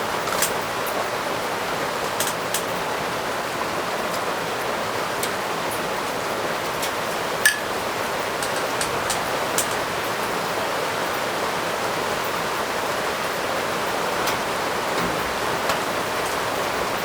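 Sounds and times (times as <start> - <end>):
heavy rain hissing: 0.0 - 17.0
drips ticking: 2.0 - 17.0.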